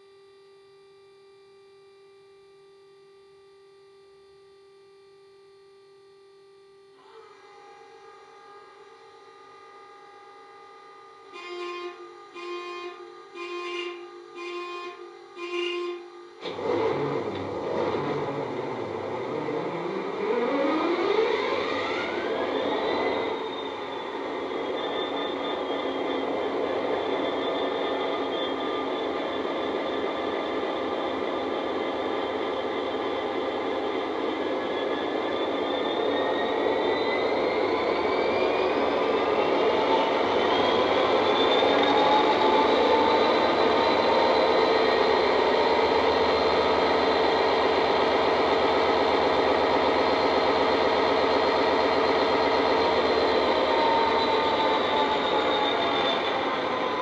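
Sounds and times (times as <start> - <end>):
rising whine: 0.0 - 57.0
diesel locomotive engine starting and idling: 9.6 - 57.0.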